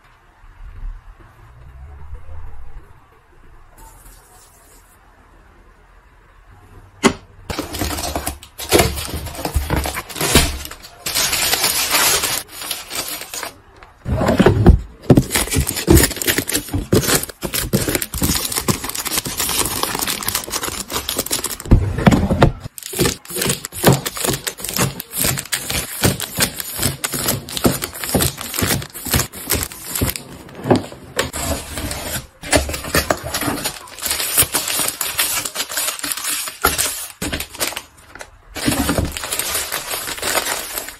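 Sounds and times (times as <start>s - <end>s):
packaging rustling: 7.5s - 40.9s.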